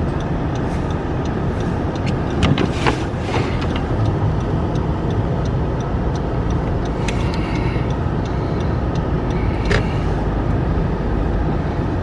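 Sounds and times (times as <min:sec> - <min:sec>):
faint light ticks: 0:00.0 - 0:10.0
engine and tyre rumble on snow: 0:00.0 - 0:12.0.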